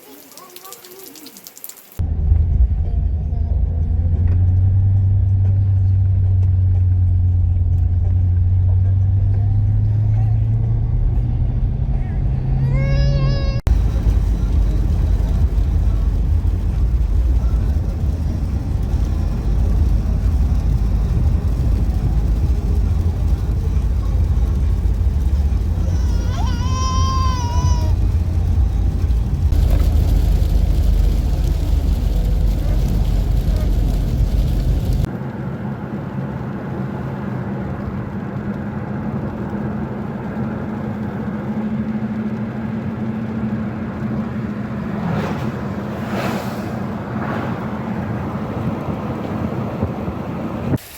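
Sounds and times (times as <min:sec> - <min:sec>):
car engine and road noise: 0:01.5 - 0:50.9.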